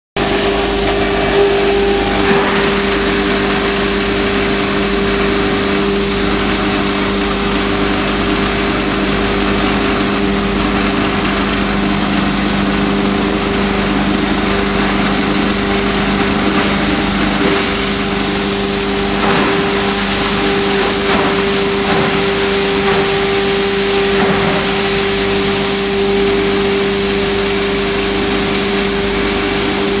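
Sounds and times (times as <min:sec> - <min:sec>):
foam shredder running: 0:00.2 - 0:30.0.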